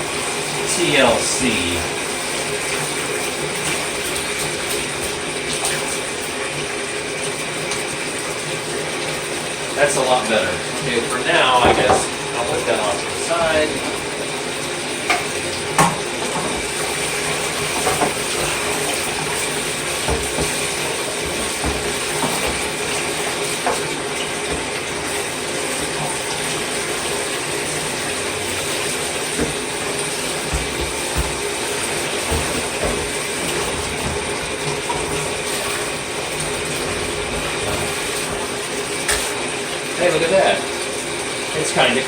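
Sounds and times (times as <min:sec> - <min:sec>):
water running: 0:00.0 - 0:42.0.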